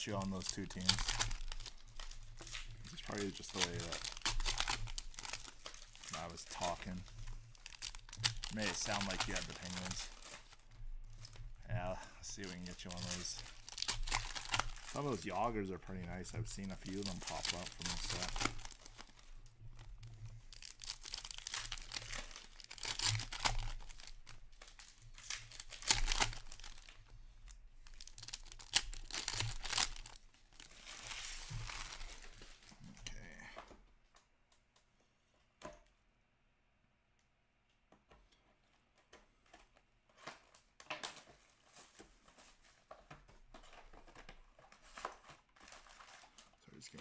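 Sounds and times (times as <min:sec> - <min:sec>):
wrappers tearing and crinkling: 0:00.0 - 0:33.4, 0:40.3 - 0:47.0.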